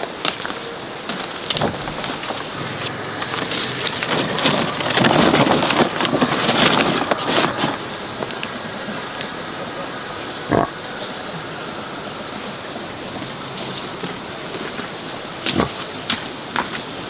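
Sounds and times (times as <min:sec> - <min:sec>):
rain patter: 0:00.0 - 0:17.0.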